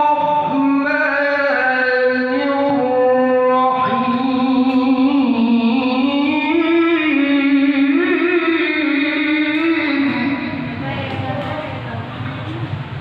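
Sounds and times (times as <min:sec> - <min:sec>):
man reciting in a long ornamented note: 0:00.0 - 0:10.8.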